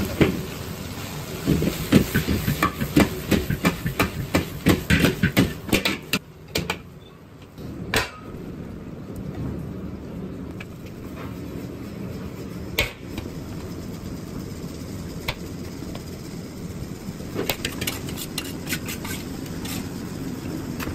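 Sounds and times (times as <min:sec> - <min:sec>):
gas burner roar: 0:00.0 - 0:06.8, 0:07.4 - 0:20.9.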